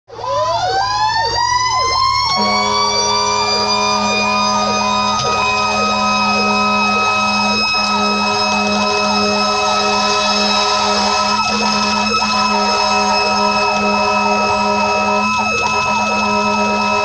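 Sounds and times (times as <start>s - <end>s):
electronic siren sweeping: 0.1s - 17.0s
mechanical siren wailing: 0.1s - 17.0s
low steady horn tone: 2.3s - 17.0s.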